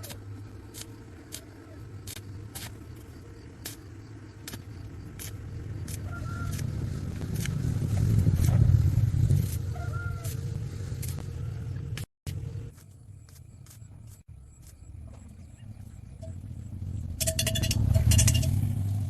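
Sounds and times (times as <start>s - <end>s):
motor vehicle engine rumble: 0.0s - 19.0s.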